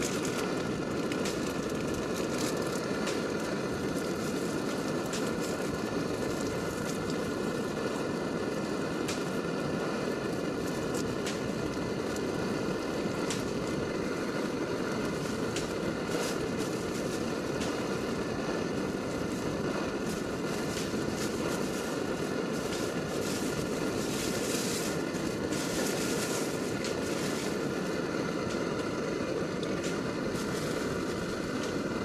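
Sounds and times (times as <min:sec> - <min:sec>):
gas stove burner roaring: 0:00.0 - 0:32.0.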